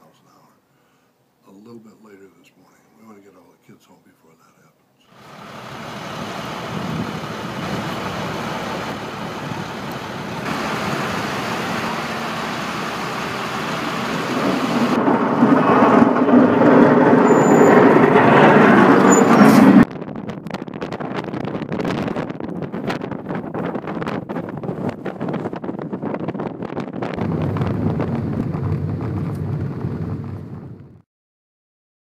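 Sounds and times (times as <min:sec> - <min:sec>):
strong wind buffeting microphone: 0:05.3 - 0:31.0.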